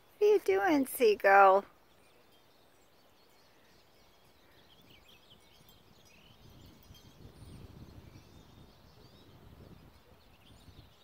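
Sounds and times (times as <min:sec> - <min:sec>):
faint bird chirps: 0:01.7 - 0:11.0.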